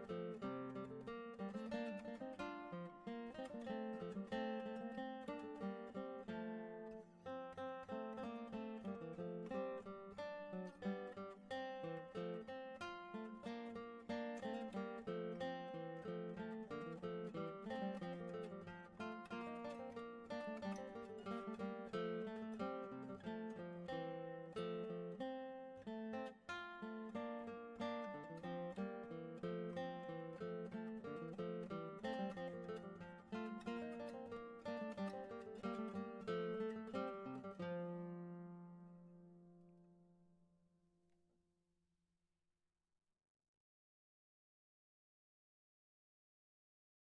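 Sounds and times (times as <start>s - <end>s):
early music on plucked strings: 0.0s - 40.1s.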